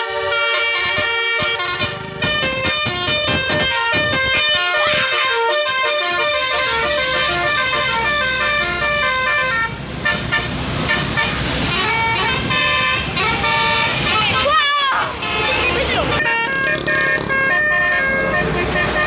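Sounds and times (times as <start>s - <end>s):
bus multi-tone horn tune: 0.0s - 19.0s.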